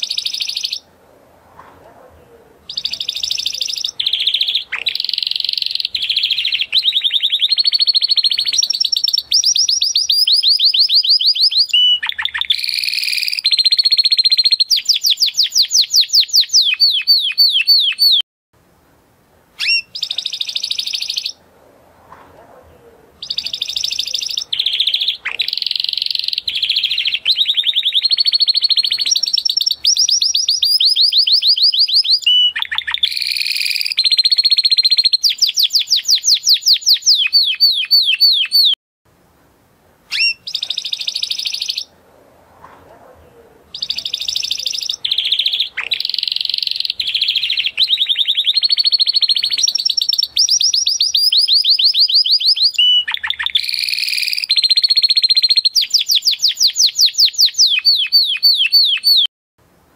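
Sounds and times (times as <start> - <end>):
canary singing trills: 0.0 - 0.9, 2.0 - 18.2, 19.6 - 21.4, 22.7 - 38.8, 40.1 - 41.9, 43.2 - 59.3.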